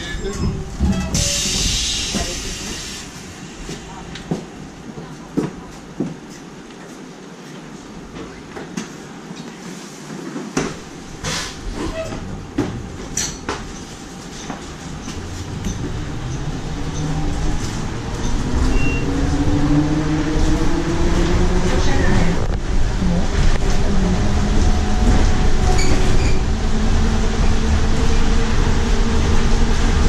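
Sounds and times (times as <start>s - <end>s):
bus ride noise: 0.0s - 30.0s.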